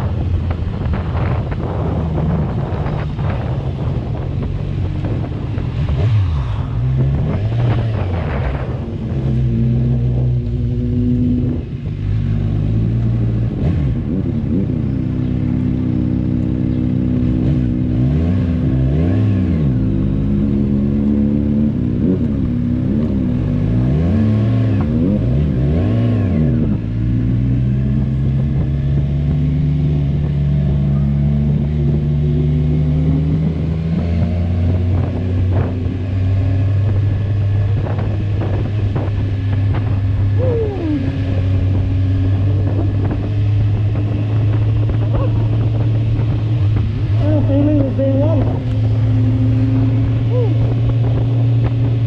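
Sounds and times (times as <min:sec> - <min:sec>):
motorcycle engine while riding: 0:00.0 - 0:52.0.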